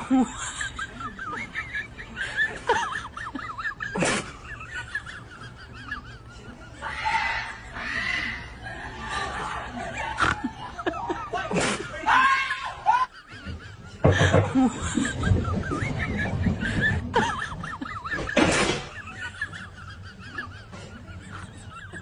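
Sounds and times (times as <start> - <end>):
people laughing: 0.0 - 22.0.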